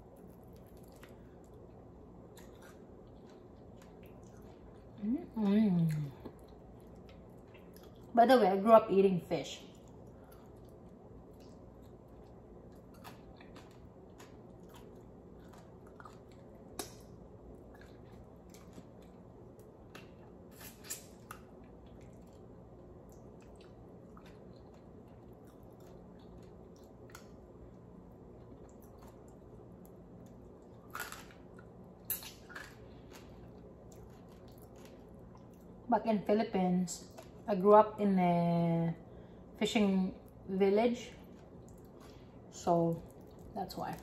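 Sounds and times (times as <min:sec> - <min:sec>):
person chewing food: 0:00.0 - 0:05.0, 0:05.8 - 0:08.1, 0:09.7 - 0:35.8, 0:41.2 - 0:44.0.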